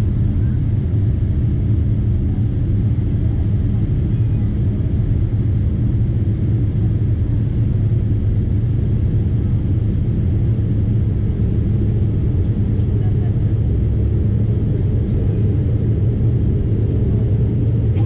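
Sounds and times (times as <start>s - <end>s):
jet engines rumbling in cabin: 0.0s - 18.0s.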